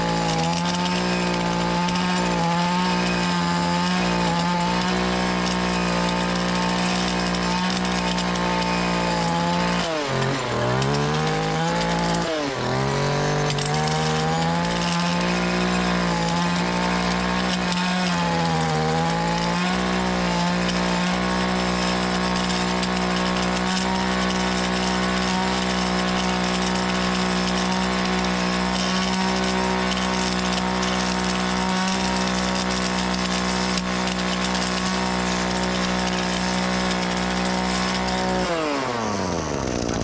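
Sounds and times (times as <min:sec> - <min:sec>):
small gas engine running: 0:00.0 - 0:40.0.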